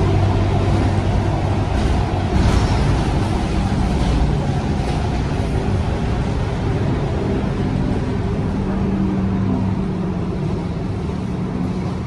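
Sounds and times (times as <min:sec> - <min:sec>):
bus engine drone: 0:00.0 - 0:12.0
road and tyre noise: 0:00.0 - 0:12.0.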